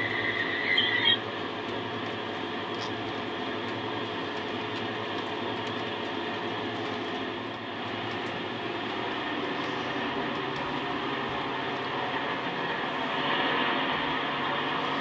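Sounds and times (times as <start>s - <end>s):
model train mechanical hum: 0.0s - 15.0s.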